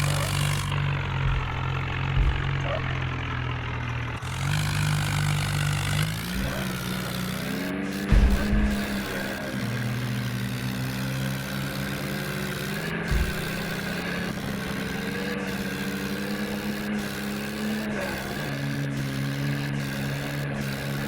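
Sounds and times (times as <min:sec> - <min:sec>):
low thumps: 0:00.0 - 0:18.3
tractor diesel engine running: 0:00.0 - 0:21.0.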